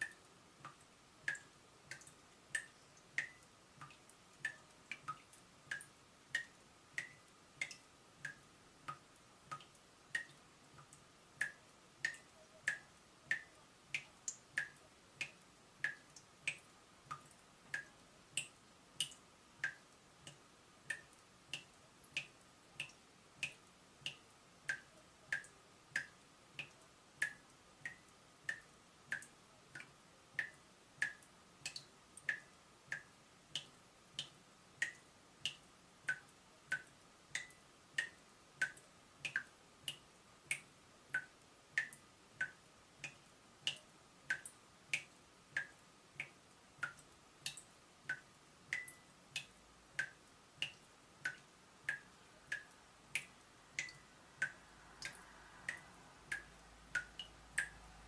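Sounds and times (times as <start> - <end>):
water dripping from tap: 0.0 - 57.9.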